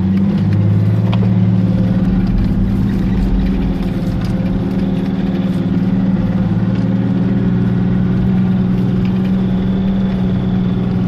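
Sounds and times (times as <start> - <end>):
car engine running inside cabin: 0.0 - 11.0.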